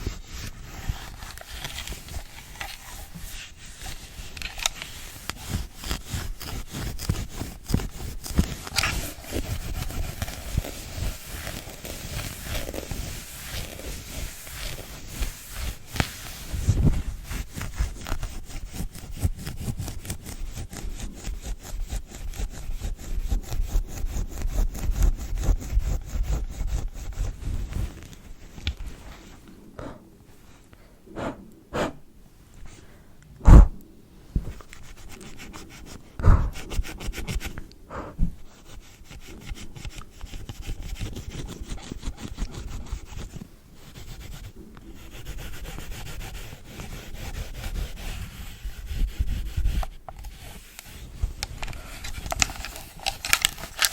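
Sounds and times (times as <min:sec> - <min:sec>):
brush rubbing on device: 0:00.0 - 0:29.6, 0:34.4 - 0:53.9.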